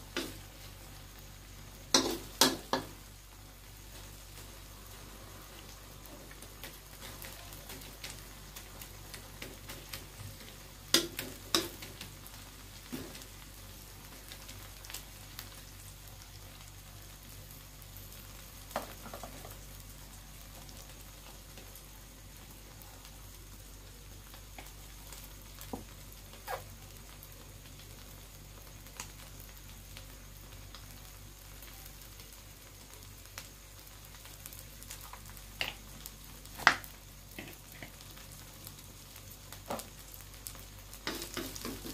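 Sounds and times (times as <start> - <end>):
omelette sizzling in a wok: 0.0 - 41.9.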